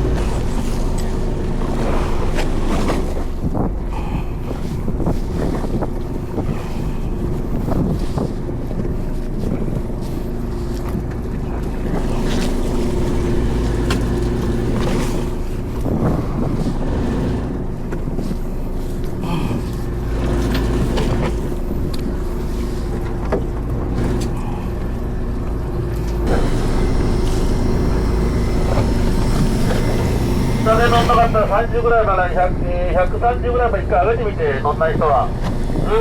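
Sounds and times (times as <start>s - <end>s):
wind noise: 0.0s - 31.8s
boat engine humming: 0.0s - 36.0s.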